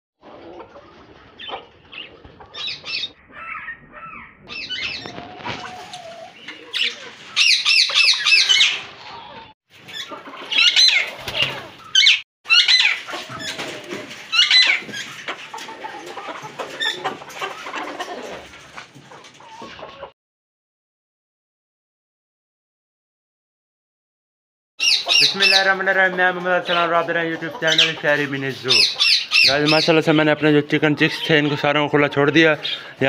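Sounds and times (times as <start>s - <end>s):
caged birds chirping and squawking: 0.2s - 20.2s, 24.8s - 33.0s.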